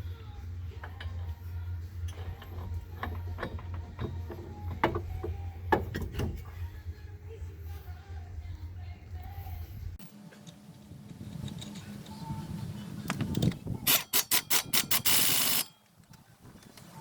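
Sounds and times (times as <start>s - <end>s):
low hum: 0.0s - 13.9s.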